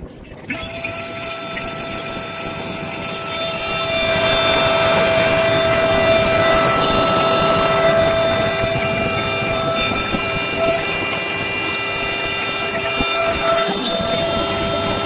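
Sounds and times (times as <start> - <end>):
electric air pump whining: 0.4 - 15.0.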